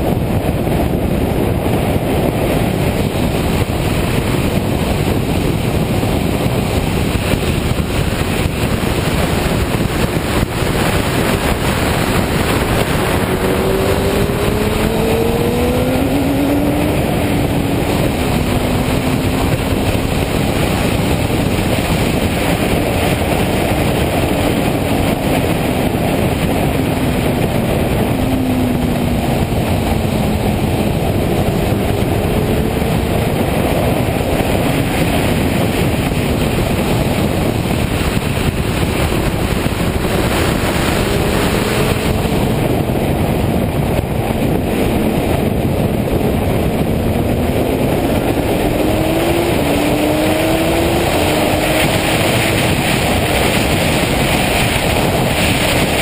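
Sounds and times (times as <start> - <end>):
motorcycle engine at speed: 0.0 - 56.0
wind noise on microphone: 0.0 - 56.0.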